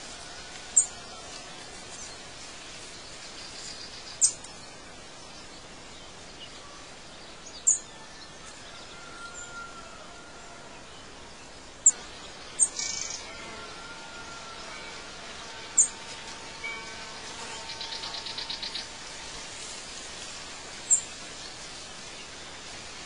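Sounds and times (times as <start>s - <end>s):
birds chirping: 0.0s - 9.6s, 10.6s - 22.8s
background hiss: 0.0s - 23.0s.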